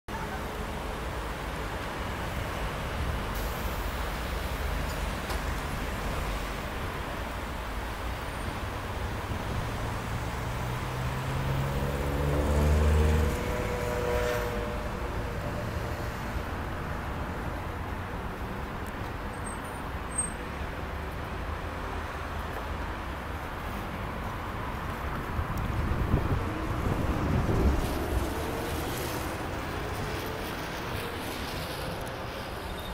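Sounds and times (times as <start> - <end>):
tram rolling along rails: 0.1 - 32.9.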